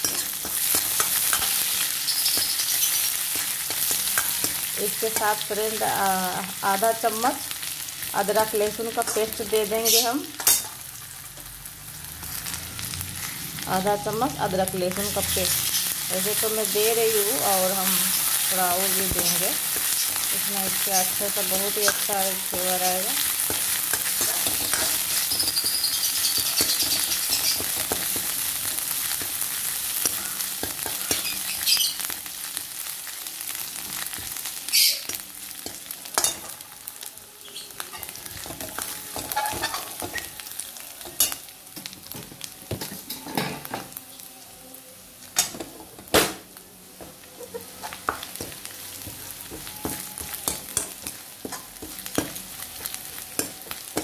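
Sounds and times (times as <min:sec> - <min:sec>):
spices sizzling in hot oil: 0:00.0 - 0:54.0.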